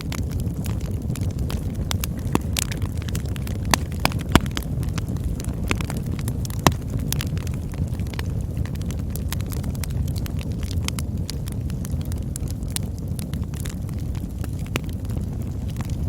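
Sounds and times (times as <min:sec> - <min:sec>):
burning wood crackling and popping: 0:00.0 - 0:16.0
low rumble of flames: 0:00.0 - 0:16.0.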